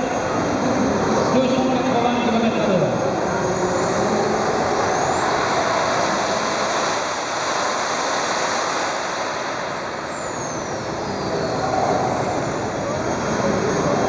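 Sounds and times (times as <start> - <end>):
model jet engine running: 0.0 - 14.0.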